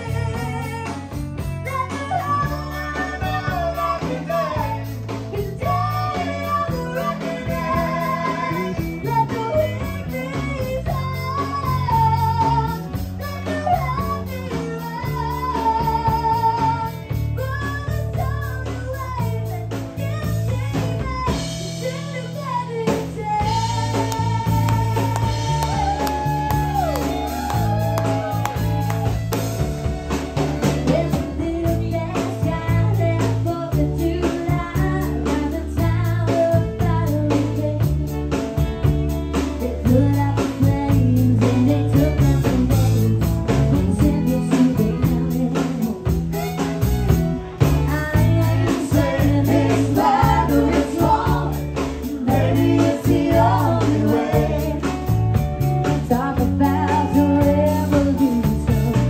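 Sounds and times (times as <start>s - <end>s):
woman singing into a microphone: 0.0s - 29.1s, 30.8s - 38.5s, 39.5s - 46.5s, 47.7s - 55.2s, 55.8s - 59.0s
drums beating: 0.0s - 59.0s
guitar: 0.0s - 59.0s.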